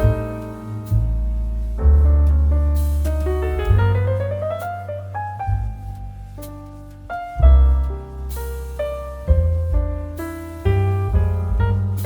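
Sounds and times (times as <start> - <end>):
piano background music: 0.0 - 12.0.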